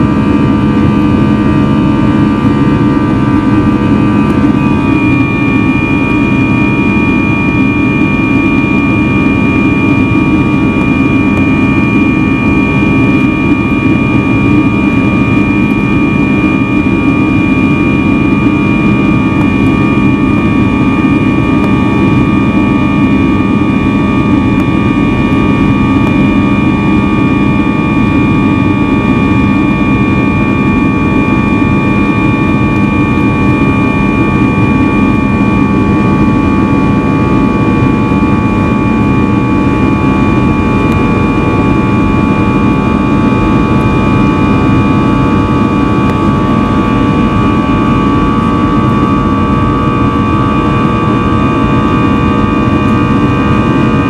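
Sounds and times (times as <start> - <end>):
jet engines and rushing air: 0.0 - 54.0
steady high whine: 0.0 - 54.0.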